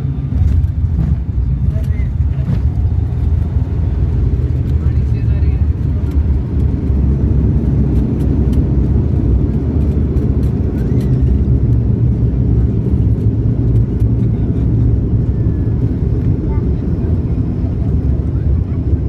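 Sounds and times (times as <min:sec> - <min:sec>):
engines rumbling: 0:00.0 - 0:19.0.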